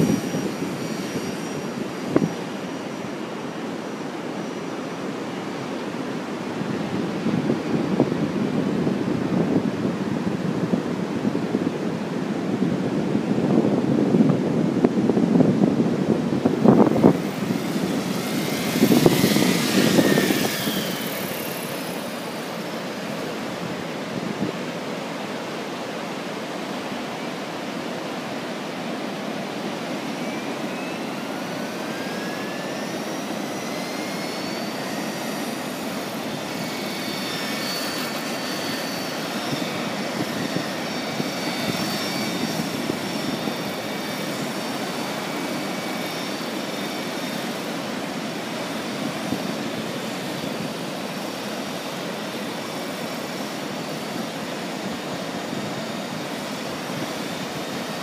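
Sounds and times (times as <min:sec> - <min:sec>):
high whining tones: 0:00.0 - 0:08.4, 0:15.7 - 0:58.0
model helicopter rotor hum: 0:00.0 - 0:58.0.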